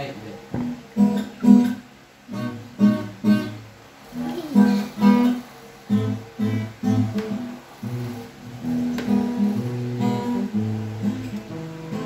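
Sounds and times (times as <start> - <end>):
acoustic guitar picking and strumming: 0.4 - 12.0.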